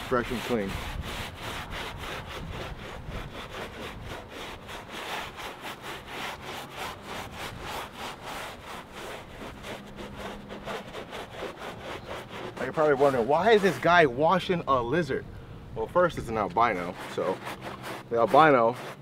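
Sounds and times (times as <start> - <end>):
brush scrubbing scaly skin: 0.0 - 14.6, 16.0 - 19.0.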